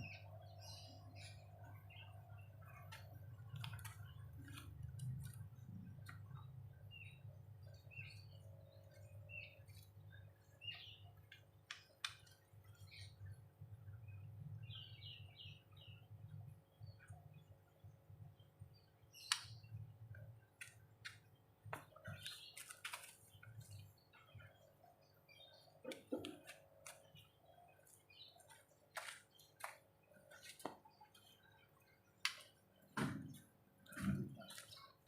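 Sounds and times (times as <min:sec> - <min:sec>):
bird chirps and clicks: 0:00.0 - 0:17.9, 0:18.7 - 0:35.0.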